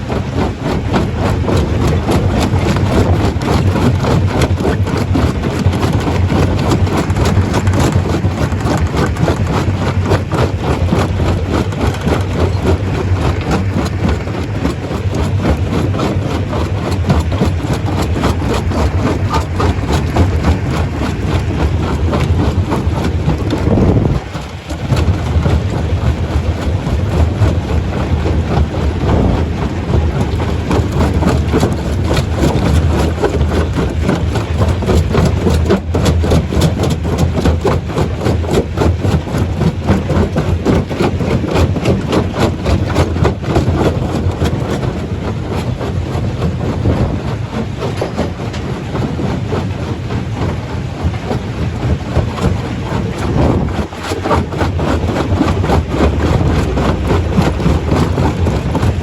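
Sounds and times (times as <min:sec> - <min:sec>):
rock clattering in crusher: 0:00.0 - 0:48.9.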